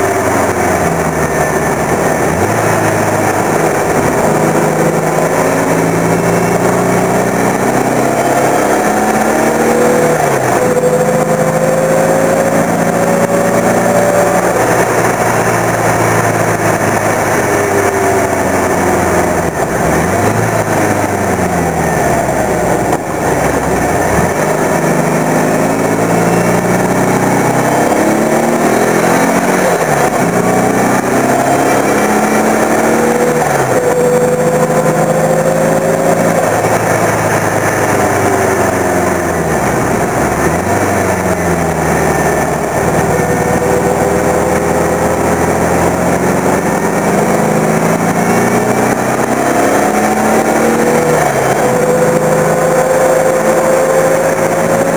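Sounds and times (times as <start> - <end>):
car engine at full throttle: 0.0 - 54.9.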